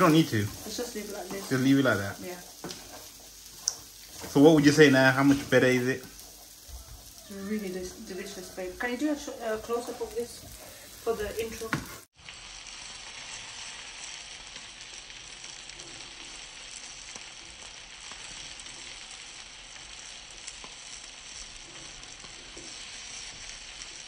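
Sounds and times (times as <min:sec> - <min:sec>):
curry sizzling in a frying pan: 0:00.0 - 0:24.0.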